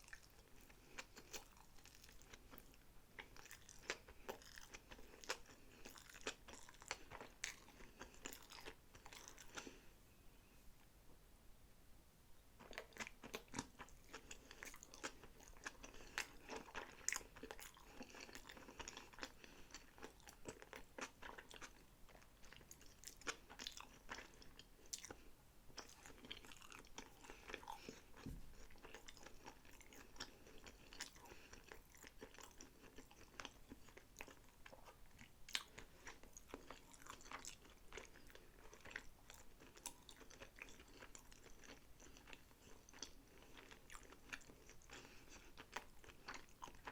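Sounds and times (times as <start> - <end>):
close chewing and biting: 0.0 - 9.9, 12.6 - 46.9.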